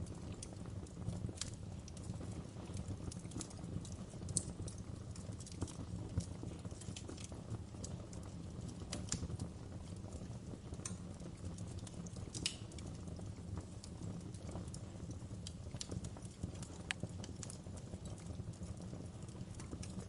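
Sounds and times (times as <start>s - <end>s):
flames rumbling: 0.0s - 20.0s
wood fire crackling: 0.0s - 20.0s.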